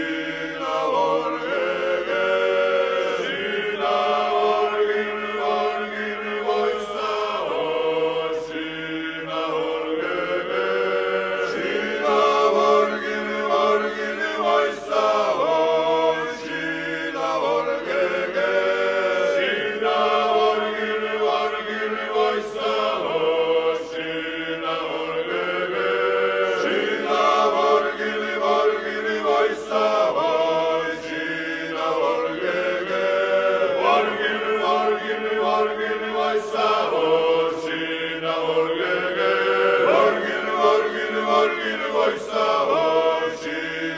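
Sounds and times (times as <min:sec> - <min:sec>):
choir chanting: 0:00.0 - 0:43.9.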